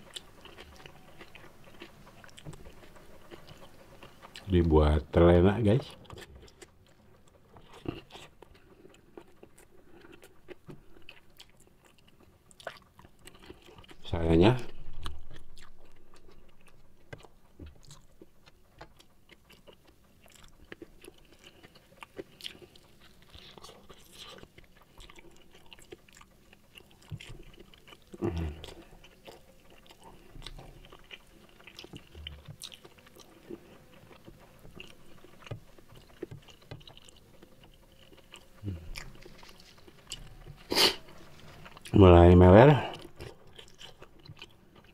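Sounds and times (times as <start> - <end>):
person chewing and biting food: 0.0 - 4.5, 5.9 - 42.0, 42.7 - 44.9.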